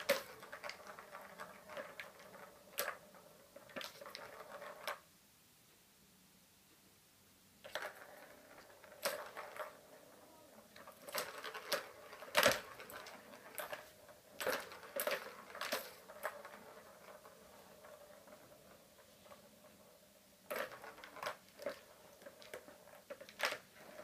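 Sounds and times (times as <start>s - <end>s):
plastic balls rattling in toy tracks: 0.0s - 5.0s, 7.6s - 24.0s.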